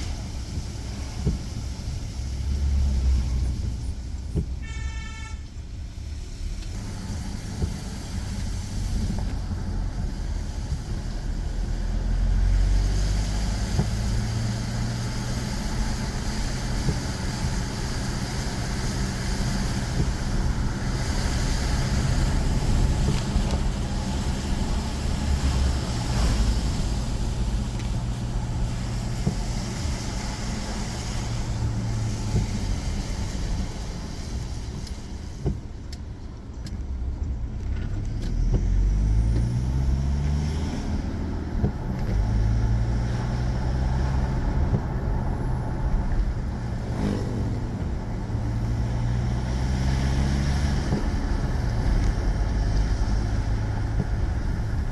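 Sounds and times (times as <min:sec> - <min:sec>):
car engine driving: 0:00.0 - 0:54.9.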